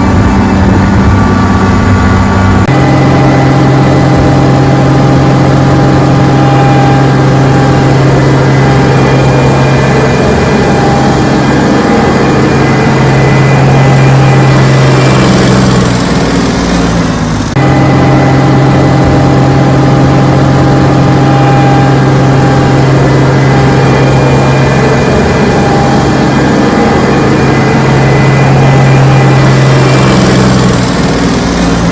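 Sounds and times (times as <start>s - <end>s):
diesel engine humming: 0.0s - 31.9s.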